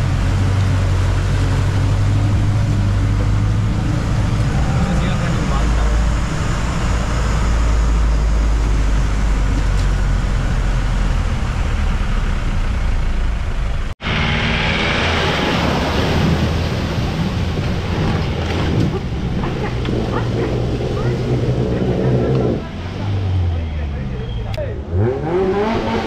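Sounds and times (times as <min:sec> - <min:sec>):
water splashing at wheels: 0:00.0 - 0:24.5
jeep engine running in low gear: 0:00.0 - 0:26.0.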